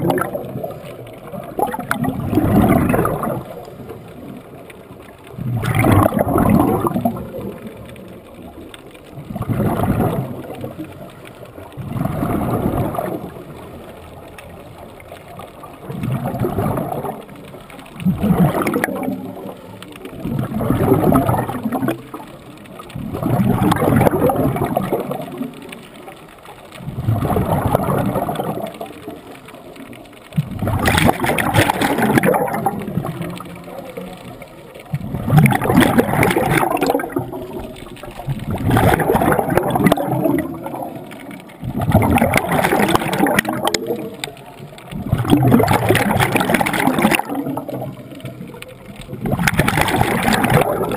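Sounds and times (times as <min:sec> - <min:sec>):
gurgling exhaled bubbles: 0:00.0 - 0:50.9.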